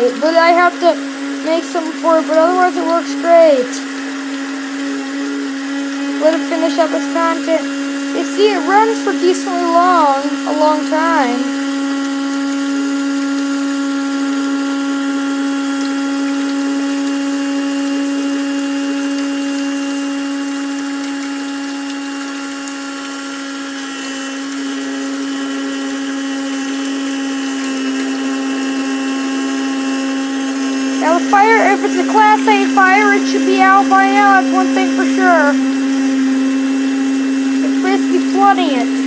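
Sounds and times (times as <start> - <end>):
electric washer pump whining: 0.0 - 39.0.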